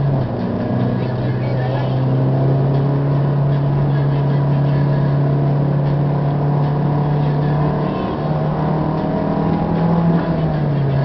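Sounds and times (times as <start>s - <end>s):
car engine droning: 0.0s - 11.0s
tyre and road noise: 0.0s - 11.0s.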